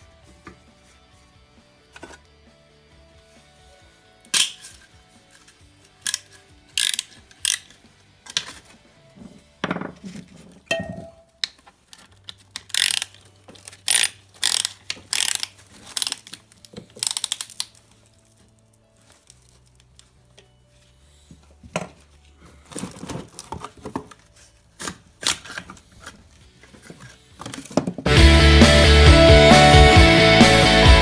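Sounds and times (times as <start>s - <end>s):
soft background music: 0.0s - 31.0s.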